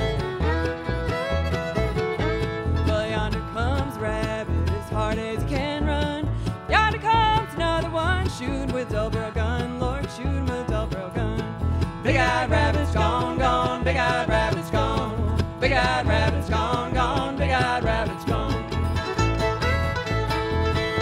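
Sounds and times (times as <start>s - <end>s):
acoustic guitar: 0.0s - 21.0s
fiddle melody: 0.0s - 21.0s
upright bass: 0.0s - 21.0s.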